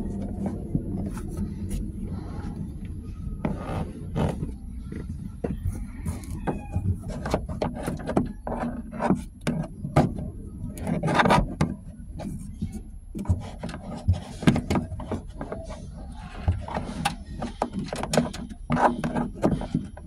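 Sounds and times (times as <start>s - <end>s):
hands rubbing and scraping trim: 0.0s - 20.0s.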